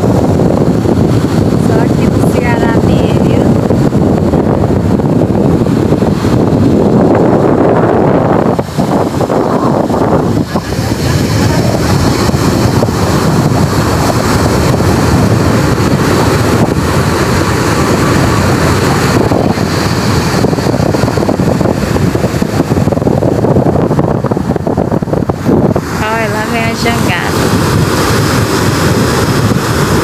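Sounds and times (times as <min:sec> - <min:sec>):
waves breaking on beach: 0:00.0 - 0:30.0
wind buffeting microphone: 0:00.0 - 0:30.0.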